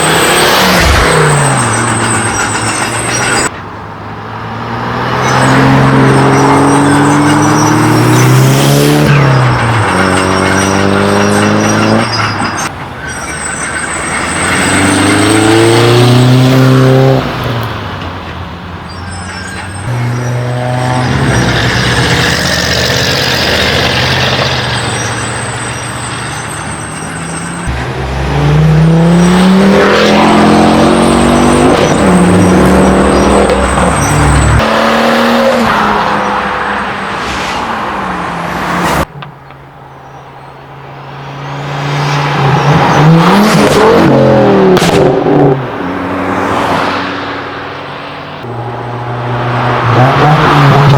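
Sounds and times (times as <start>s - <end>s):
cars accelerating with engines revving: 0.0s - 3.5s, 4.1s - 18.0s, 18.9s - 39.1s, 41.0s - 50.9s.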